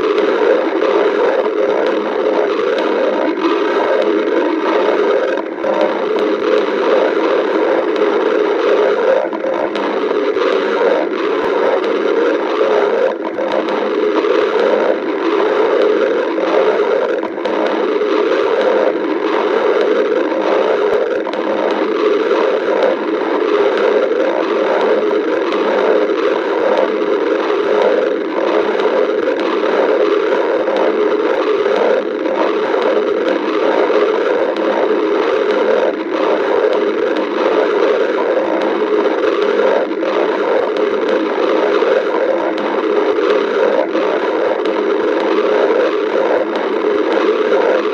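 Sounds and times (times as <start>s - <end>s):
stomach growling and gurgling: 0.0s - 47.9s.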